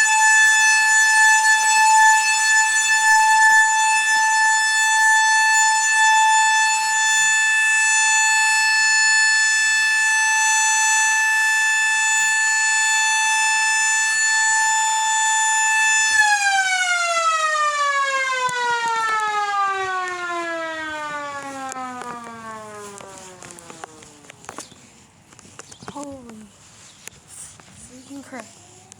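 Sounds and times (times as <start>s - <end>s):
warning siren steady tone: 0.0s - 25.0s.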